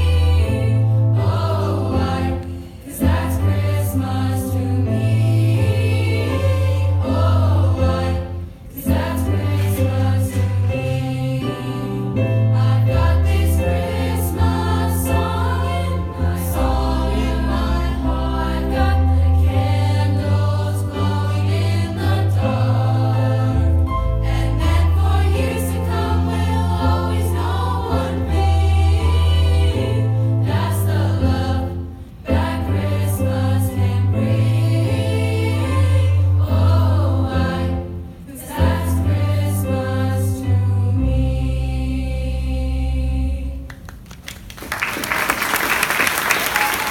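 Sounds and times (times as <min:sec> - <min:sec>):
choir singing in harmony: 0:00.0 - 0:43.7.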